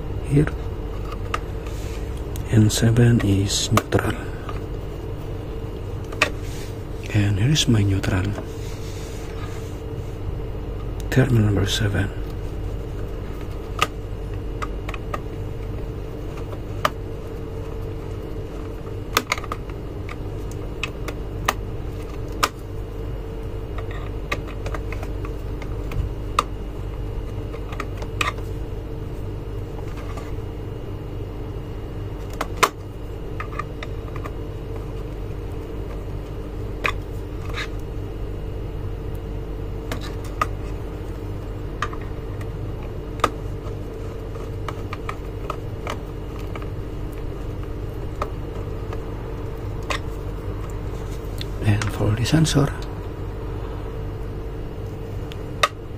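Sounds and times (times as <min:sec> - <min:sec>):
steady background hum: 0:00.0 - 0:55.9.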